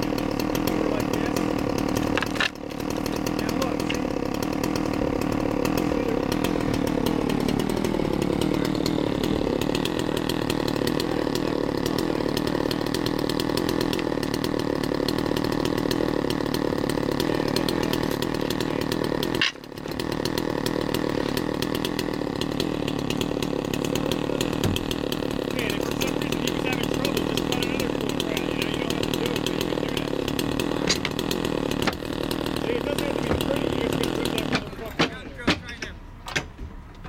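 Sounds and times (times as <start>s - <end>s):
chainsaw cutting under load: 0.0s - 37.0s.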